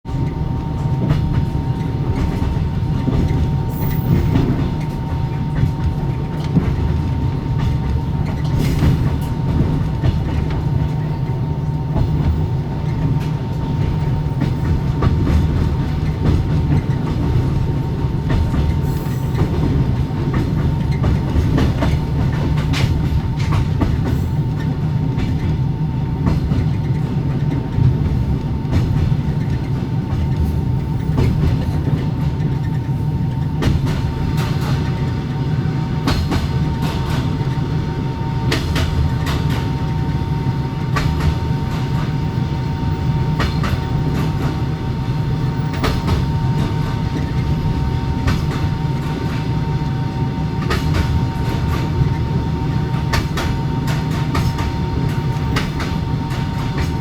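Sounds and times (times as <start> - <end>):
train carriage rumble: 0.0 - 57.0.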